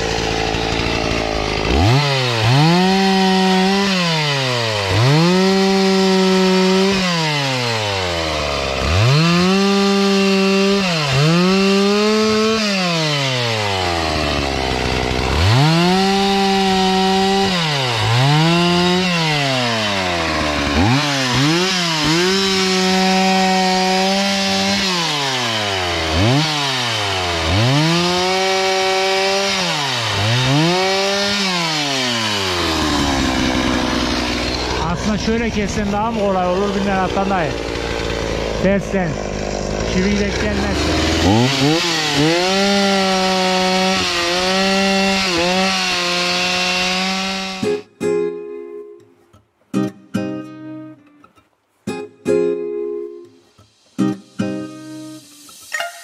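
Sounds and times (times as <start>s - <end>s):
chainsaw revving cutting wood: 0.0s - 47.9s.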